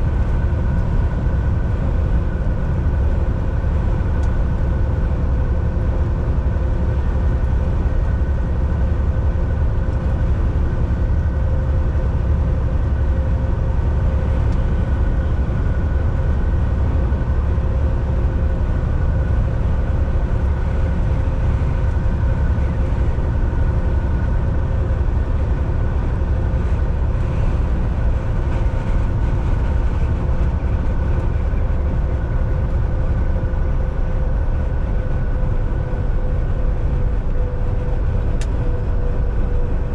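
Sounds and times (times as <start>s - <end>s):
drivetrain whine: 0.0s - 39.9s
truck engine and road drone: 0.0s - 39.9s.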